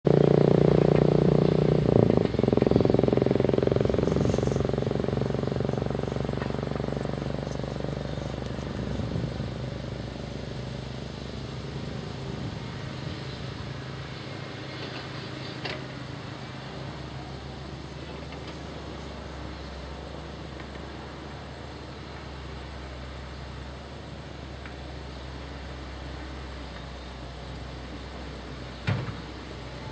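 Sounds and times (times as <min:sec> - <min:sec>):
heavy diesel machinery engine: 0:00.0 - 0:29.9.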